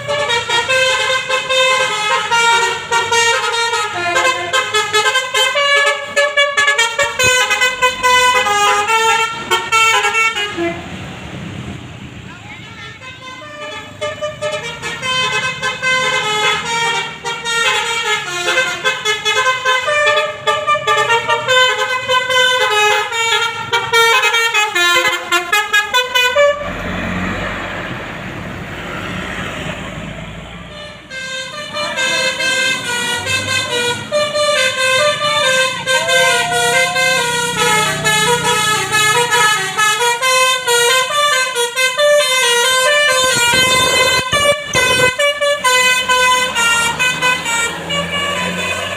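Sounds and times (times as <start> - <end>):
engine and road noise: 0.0 - 48.9
multi-tone air horn tune: 0.1 - 11.0, 12.6 - 26.7, 30.7 - 48.9.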